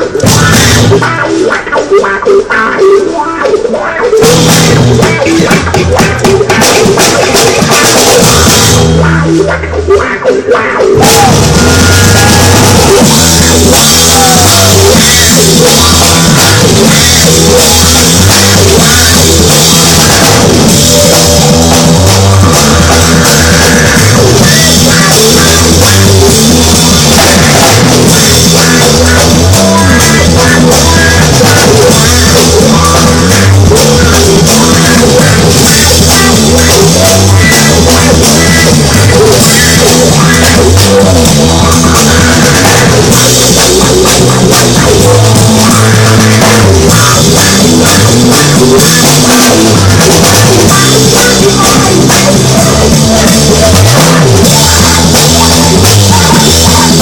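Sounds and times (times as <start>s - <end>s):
pounding drum beat: 0.0s - 2.7s, 3.6s - 57.0s
repeating bass line: 0.0s - 2.8s, 4.1s - 57.0s
loud rock music: 0.0s - 57.0s.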